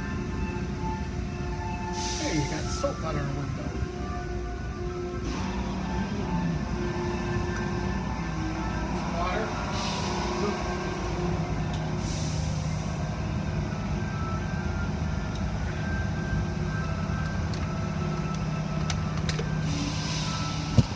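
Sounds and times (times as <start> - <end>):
car wash motors humming: 0.0 - 20.9.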